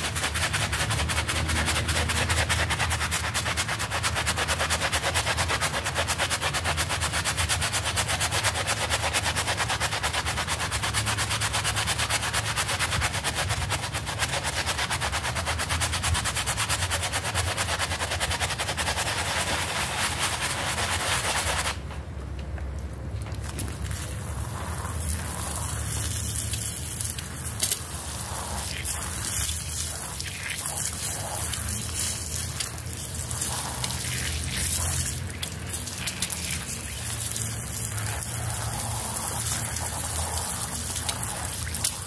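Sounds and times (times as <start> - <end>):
brush scrubbing carpet: 0.0 - 21.8, 26.8 - 42.0.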